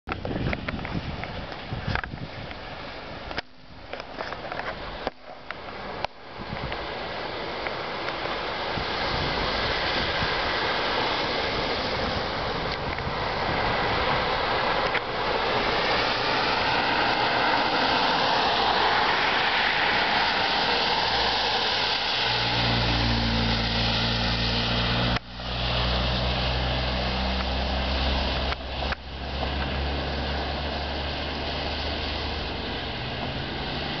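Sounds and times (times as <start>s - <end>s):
low engine drone close by: 0.1s - 34.0s
tyre hiss on wet road: 0.8s - 34.0s
van engines passing: 2.6s - 34.0s.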